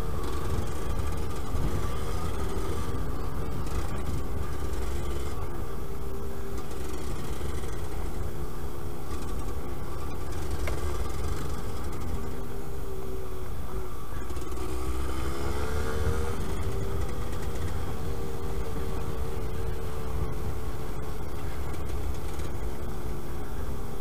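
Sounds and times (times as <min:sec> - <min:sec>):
two-stroke motorbike engine running: 0:00.0 - 0:24.0.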